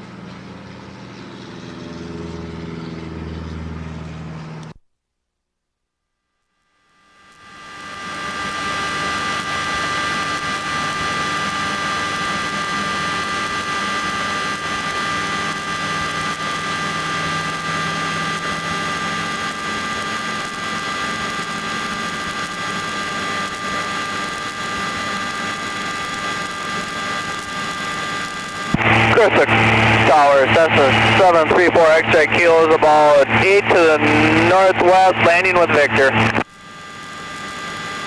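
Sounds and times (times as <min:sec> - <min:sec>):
helicopter engine and rotor: 0:07.4 - 0:38.0.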